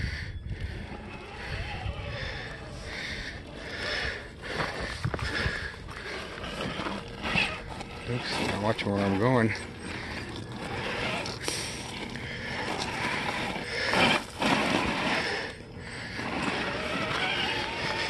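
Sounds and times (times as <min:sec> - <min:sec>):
tires crunching on gravel: 0:00.1 - 0:18.0
small electric motor whirring: 0:00.3 - 0:18.0.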